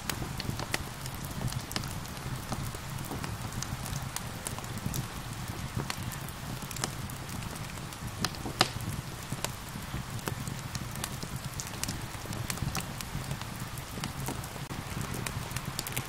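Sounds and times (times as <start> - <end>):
steady rain falling: 0.0 - 16.0
wood fire crackling and popping: 0.0 - 16.0.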